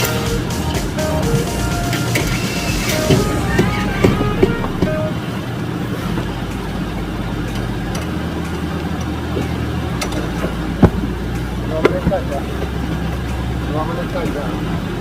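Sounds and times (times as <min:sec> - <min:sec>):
low drone of boat machinery: 0:00.0 - 0:15.0.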